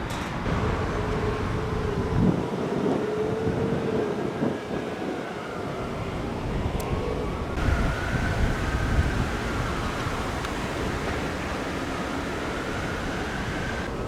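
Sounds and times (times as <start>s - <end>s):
street traffic passing: 0.0s - 14.0s
wind on microphone: 0.5s - 14.0s.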